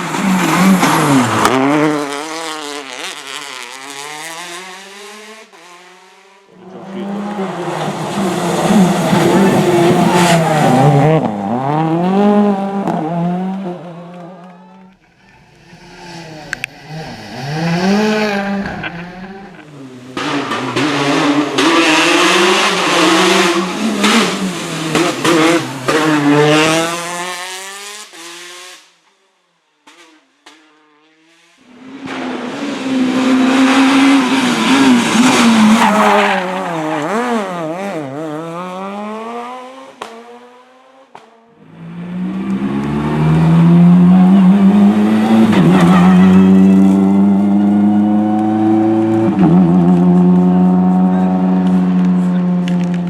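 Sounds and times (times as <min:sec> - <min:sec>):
rally car engines at full throttle: 0:00.0 - 0:53.0.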